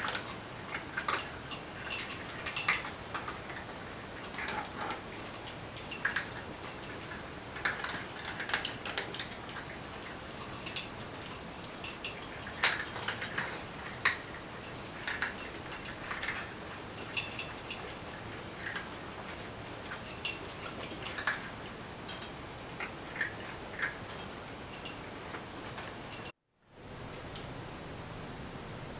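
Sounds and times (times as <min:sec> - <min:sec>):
cats crunching dry kibble: 0:00.0 - 0:26.2
bowls clinking: 0:00.0 - 0:26.3.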